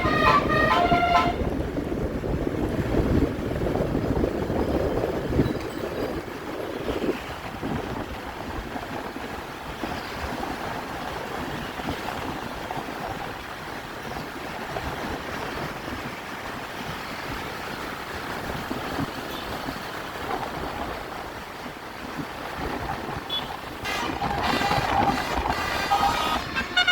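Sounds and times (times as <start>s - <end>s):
steady road traffic: 0.0s - 26.9s.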